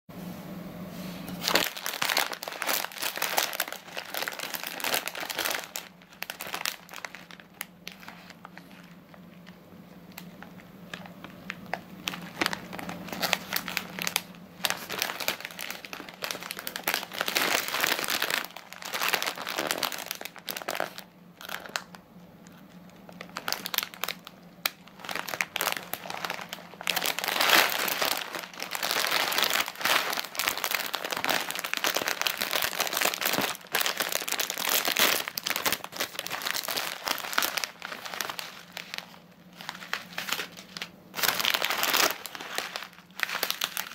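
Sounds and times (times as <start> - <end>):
plastic bags crinkling: 1.3 - 43.9.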